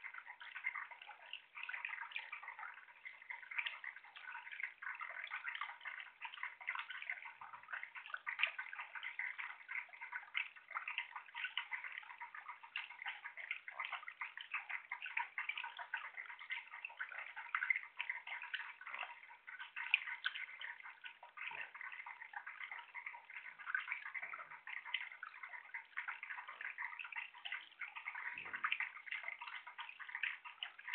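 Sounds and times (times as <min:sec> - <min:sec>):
tabletop fountain bubbling: 0:00.0 - 0:30.9.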